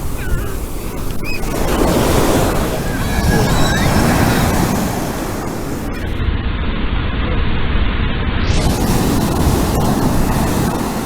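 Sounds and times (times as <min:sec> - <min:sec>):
surf roaring: 0:00.0 - 0:11.0
wind rumbling on microphone: 0:00.0 - 0:11.0.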